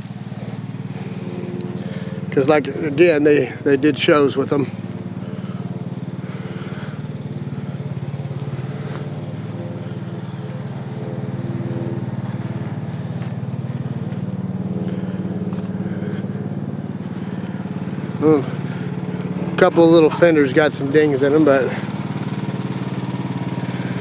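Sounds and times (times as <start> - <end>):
engine puttering: 0.0 - 24.0.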